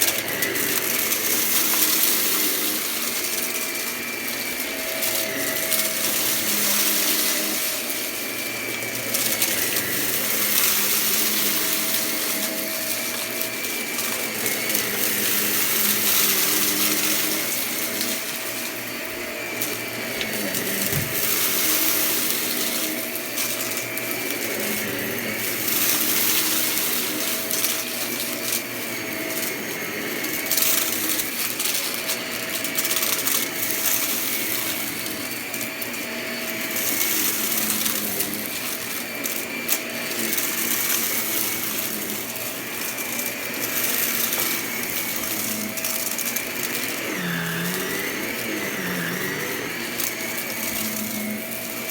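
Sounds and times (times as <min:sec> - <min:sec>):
debris crackling in vacuum: 0:00.0 - 0:51.9
vacuum cleaner running: 0:00.0 - 0:51.9.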